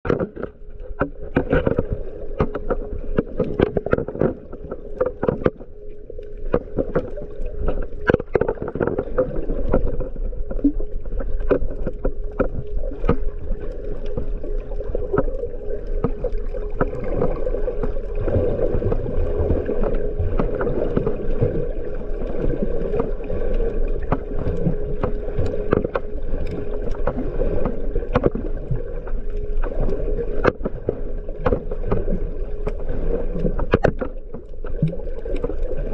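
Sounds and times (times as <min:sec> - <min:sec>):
muffled churn of water: 0:00.0 - 0:35.9
underwater clicks and crackles: 0:00.0 - 0:35.9
steady hum: 0:00.1 - 0:35.9.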